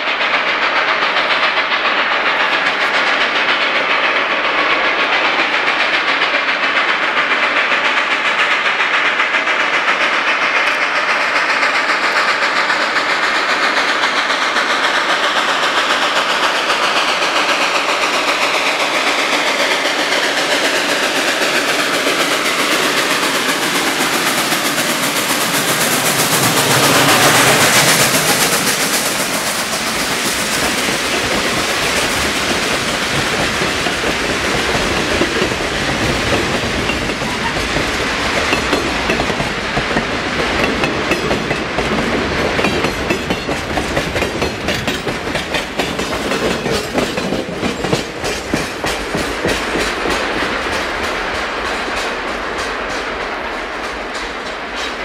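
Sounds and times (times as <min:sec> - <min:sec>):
steam locomotive passing: 0:00.0 - 0:55.0
train wheels clickety-clack: 0:00.0 - 0:55.0.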